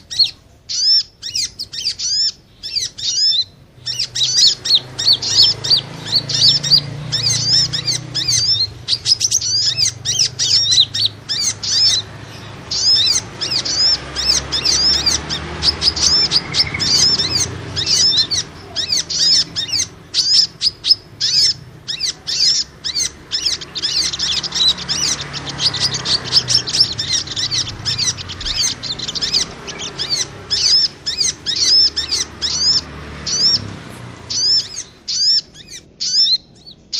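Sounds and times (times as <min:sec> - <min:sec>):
songbirds chirping: 0:00.0 - 0:36.9.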